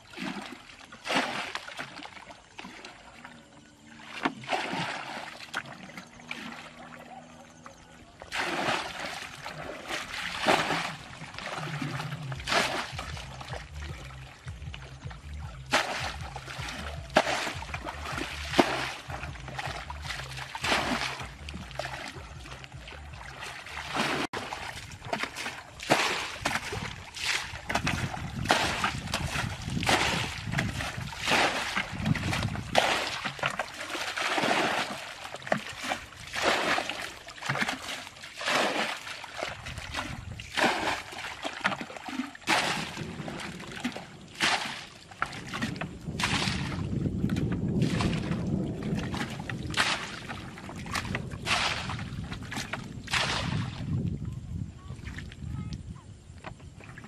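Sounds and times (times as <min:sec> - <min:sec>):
water sloshing from a bucket: 0:00.0 - 0:57.0.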